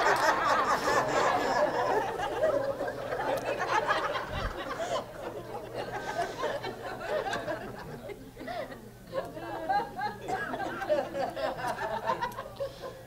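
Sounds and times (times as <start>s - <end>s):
crowd chuckling and murmuring: 0.0s - 13.0s.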